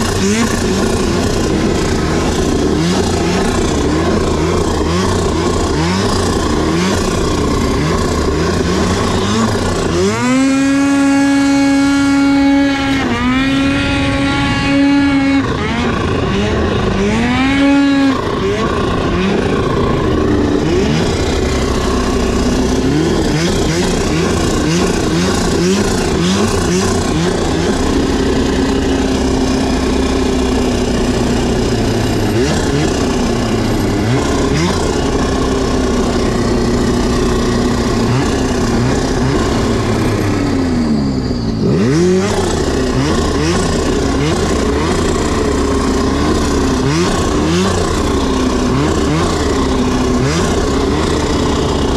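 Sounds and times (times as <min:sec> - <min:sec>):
snowmobile engine revving: 0:00.0 - 0:51.9.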